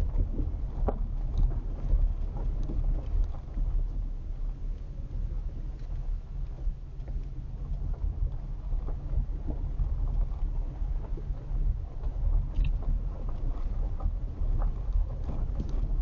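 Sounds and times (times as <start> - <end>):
small knocks and rattles: 0.0 - 16.0
vehicle driving rumble: 0.0 - 16.0.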